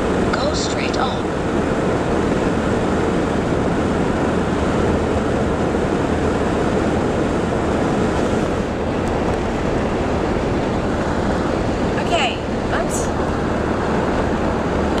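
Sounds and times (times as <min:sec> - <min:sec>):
vehicle road noise inside cabin: 0:00.0 - 0:15.0.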